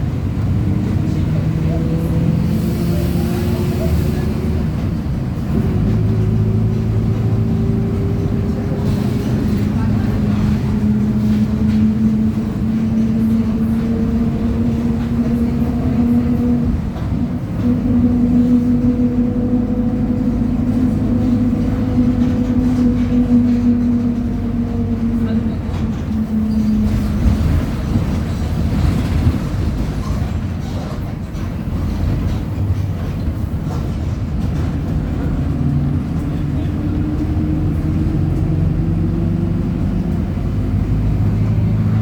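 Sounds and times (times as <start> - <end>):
bus engine at high revs: 0.0 - 42.0.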